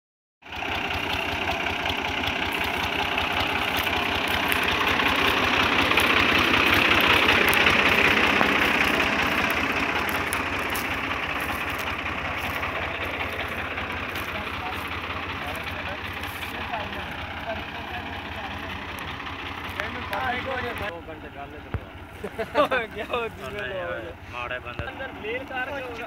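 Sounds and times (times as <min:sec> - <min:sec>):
tractor diesel engine running: 0:00.4 - 0:26.0.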